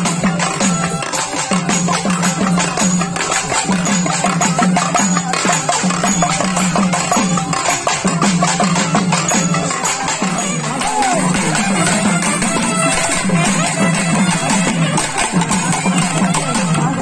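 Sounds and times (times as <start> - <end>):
drums beating rhythm: 0.0 - 17.0
jingling metal percussion: 0.0 - 17.0.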